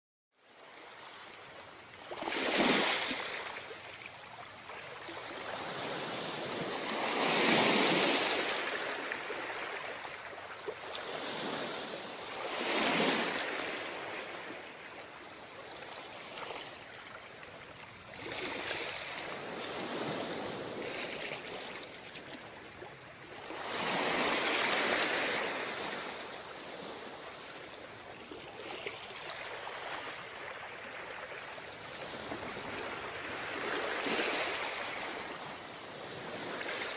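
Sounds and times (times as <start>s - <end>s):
ocean waves breaking on beach: 0.5s - 36.9s.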